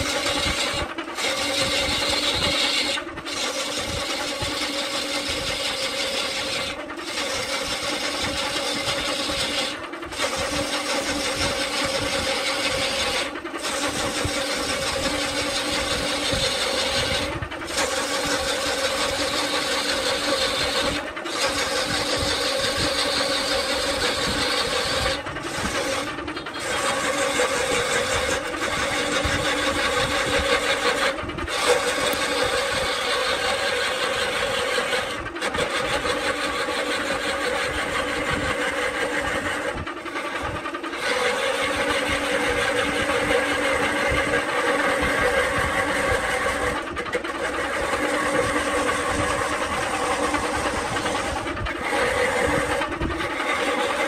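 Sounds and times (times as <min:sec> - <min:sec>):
turning tool scraping wood: 0:00.0 - 0:54.0
wood lathe motor hum: 0:00.0 - 0:54.0.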